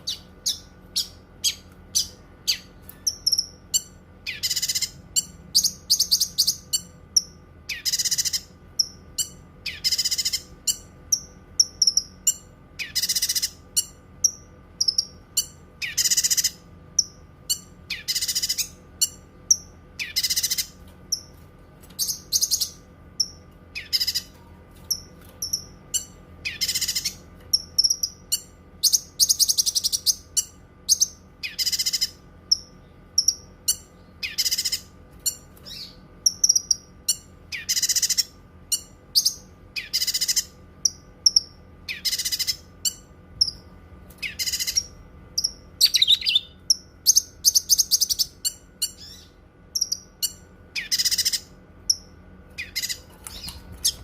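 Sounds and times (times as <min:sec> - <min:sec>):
songbird chattering song: 0:00.0 - 0:21.3, 0:22.0 - 0:54.0.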